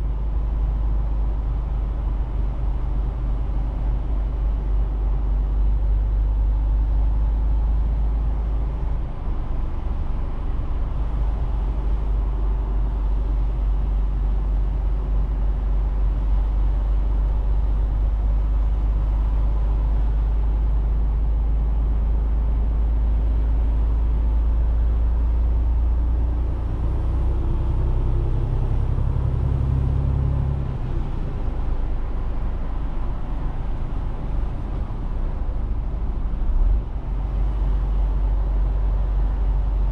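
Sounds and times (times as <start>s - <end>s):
road noise: 0.0s - 39.9s
truck diesel engine rumbling: 0.0s - 39.9s.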